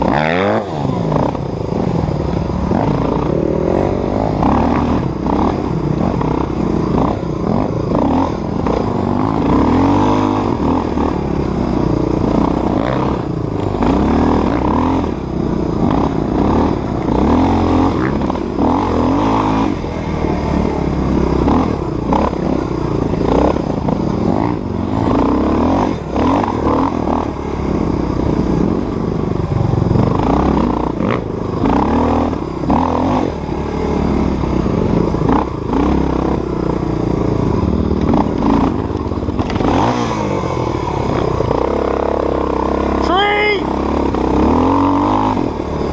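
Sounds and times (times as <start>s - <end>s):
dirt bike engine revving: 0.0s - 45.9s
bike rattling over bumps: 1.1s - 43.0s.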